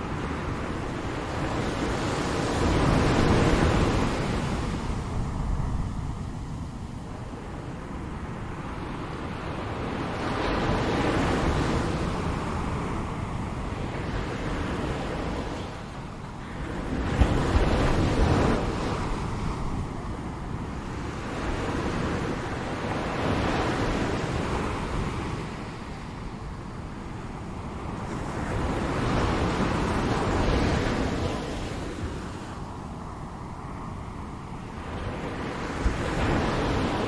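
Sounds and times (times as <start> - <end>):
ocean waves breaking on shore: 0.0 - 37.0
wind rumble on microphone: 0.0 - 37.0.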